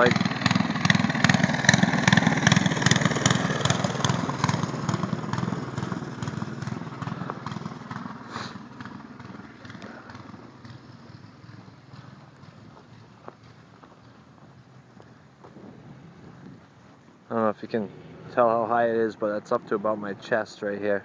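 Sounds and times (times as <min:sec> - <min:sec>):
small petrol engine running: 0:00.0 - 0:20.8.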